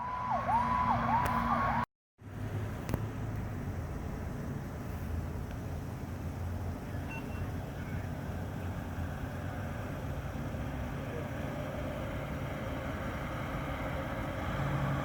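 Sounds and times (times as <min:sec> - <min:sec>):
fire truck engine rumble: 0:00.0 - 0:15.0
road and tyre noise: 0:00.0 - 0:15.0.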